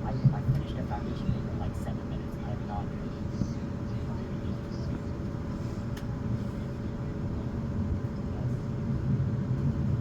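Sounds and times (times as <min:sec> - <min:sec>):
train running on board: 0:00.0 - 0:10.0.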